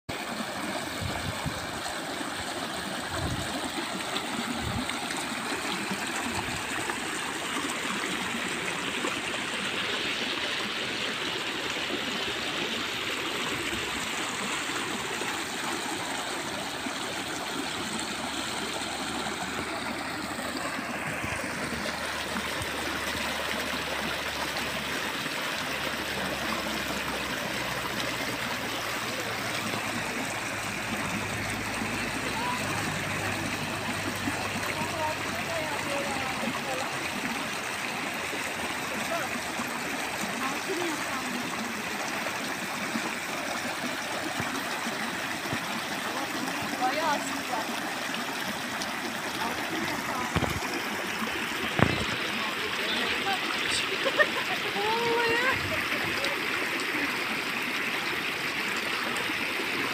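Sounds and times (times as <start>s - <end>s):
water splashing over rocks: 0.1s - 59.9s.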